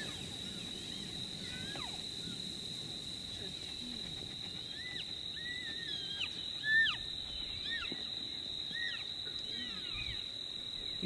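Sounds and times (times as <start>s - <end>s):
coyotes yipping and howling: 0.0s - 11.0s
high-pitched insect trill: 0.0s - 11.0s.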